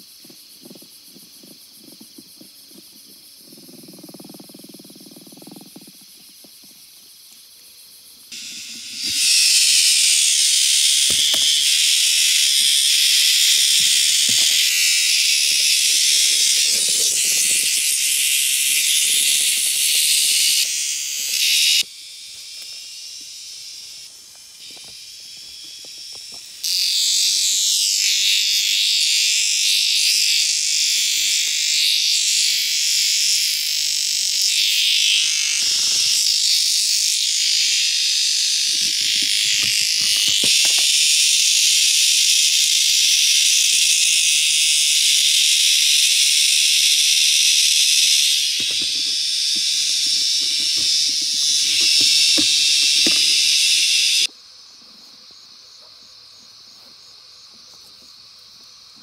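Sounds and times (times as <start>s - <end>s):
insects and frogs calling: 0.0s - 59.0s.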